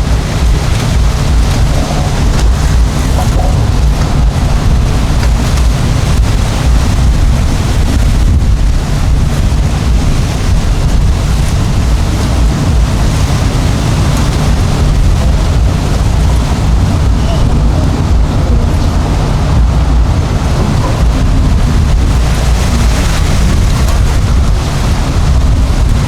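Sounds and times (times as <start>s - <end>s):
boat engines running: 0.0s - 26.0s
wind buffeting microphone: 0.0s - 26.0s.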